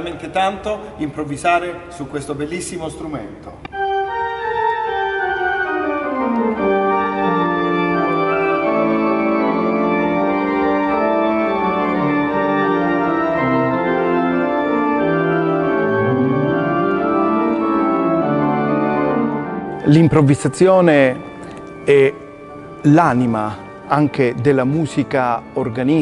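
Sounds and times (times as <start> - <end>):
pipe organ chords: 3.6 - 26.0.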